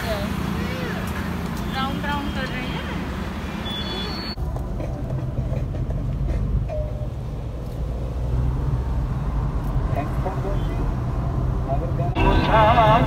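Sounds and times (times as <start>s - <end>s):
car cabin road rumble: 0.0s - 13.0s.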